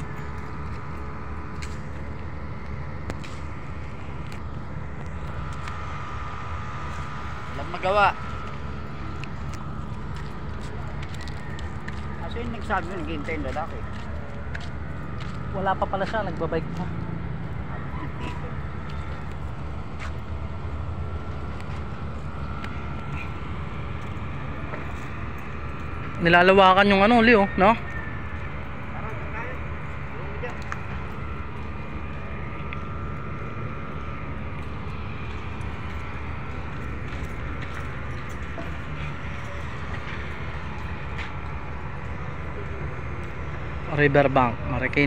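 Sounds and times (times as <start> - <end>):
distant road traffic rumble: 0.0 - 45.0.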